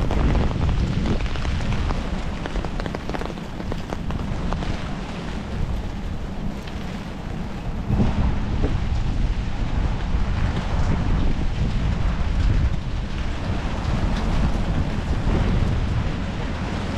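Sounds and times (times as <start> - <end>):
low rumble: 0.0 - 16.9
rain falling: 0.0 - 16.9.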